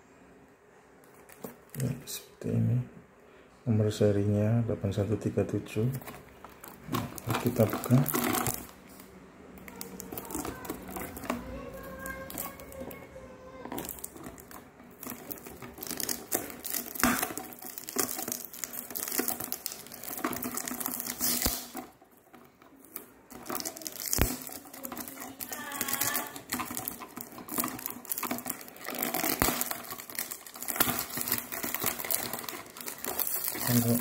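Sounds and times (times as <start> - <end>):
cellophane crinkling: 1.0 - 2.1, 5.7 - 34.0.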